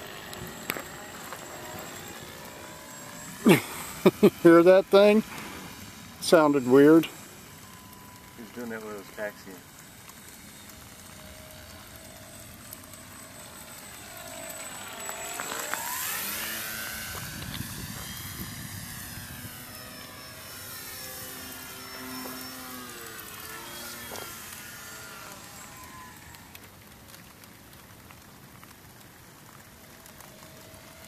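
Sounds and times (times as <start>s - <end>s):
model plane motor whining: 0.0s - 31.0s.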